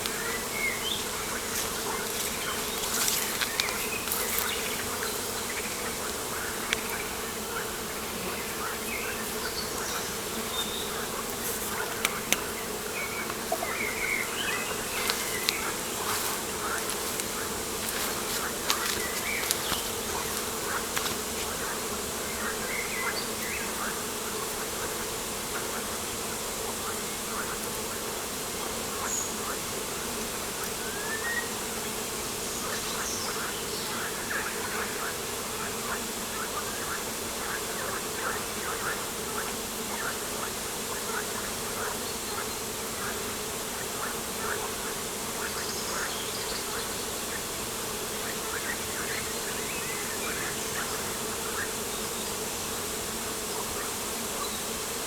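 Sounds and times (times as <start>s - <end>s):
insect buzzing: 0.0s - 55.0s.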